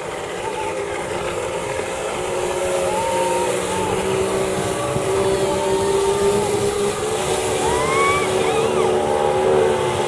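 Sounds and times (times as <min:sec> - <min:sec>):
rush of wind and water: 0:00.0 - 0:10.0
watercraft engines droning: 0:00.0 - 0:10.0.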